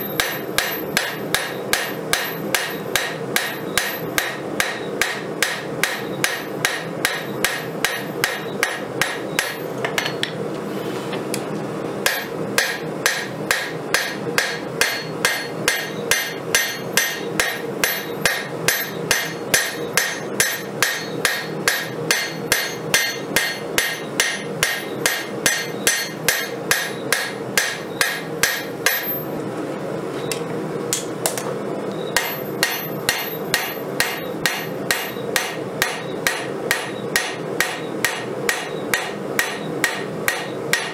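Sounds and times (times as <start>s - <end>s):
hammer ringing on anvil: 0.0s - 10.4s, 12.0s - 29.3s, 32.2s - 40.9s.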